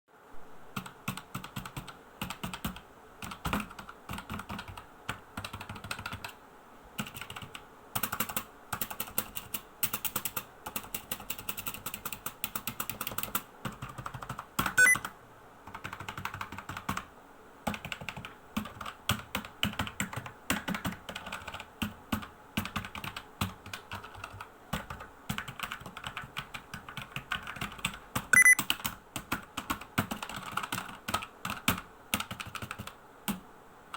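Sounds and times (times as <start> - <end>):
clicky keyboard typing: 0.8 - 6.4, 7.0 - 33.4
loud keyboard clacks: 0.8 - 6.4, 7.0 - 15.0, 15.7 - 17.1, 17.7 - 33.4.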